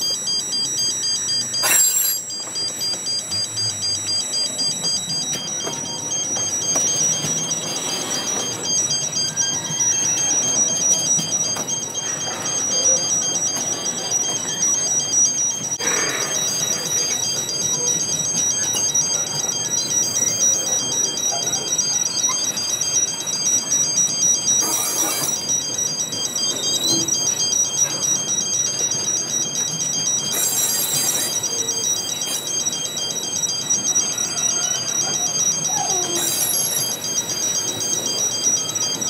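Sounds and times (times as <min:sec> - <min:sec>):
two-tone warning alarm: 0:00.0 - 0:39.0.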